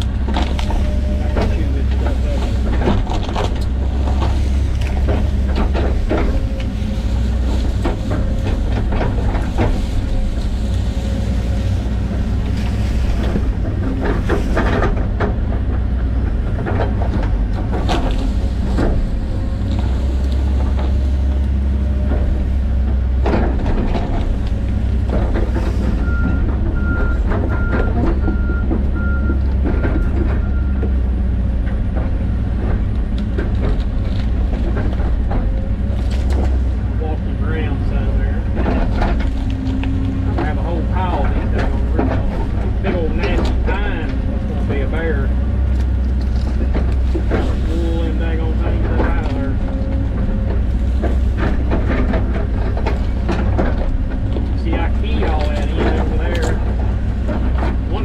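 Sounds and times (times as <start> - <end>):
cracks and knocks of trees: 0.0 - 58.0
excavator diesel engine: 0.0 - 58.0.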